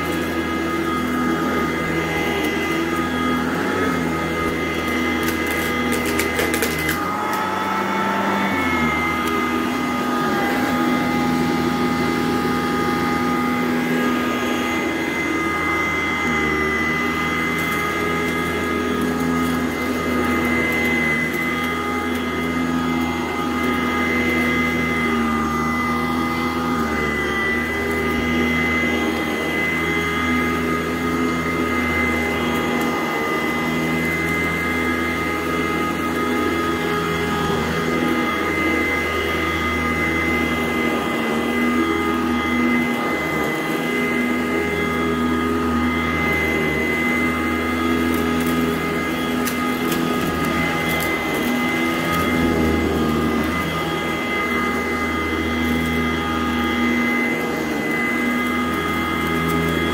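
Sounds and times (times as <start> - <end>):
upright vacuum cleaner on carpet: 0.0 - 59.9.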